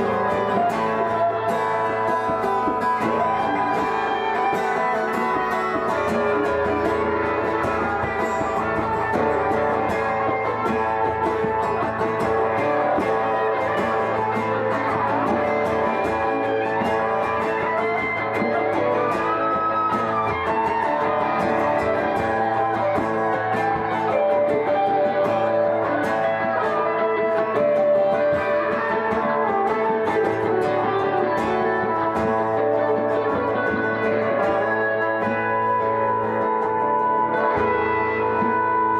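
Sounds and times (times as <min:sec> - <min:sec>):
band jamming on guitars: 0:00.0 - 0:38.9.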